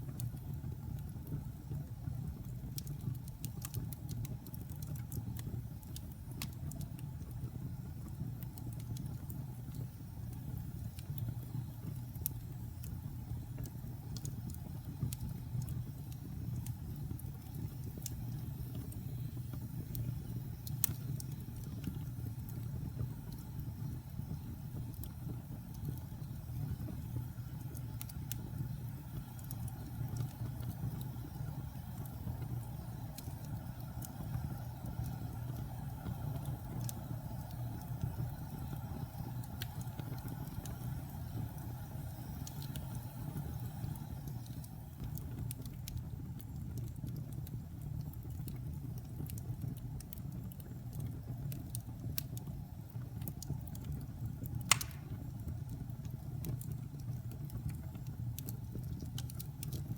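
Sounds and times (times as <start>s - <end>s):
wood fire burning: 0.0s - 59.9s.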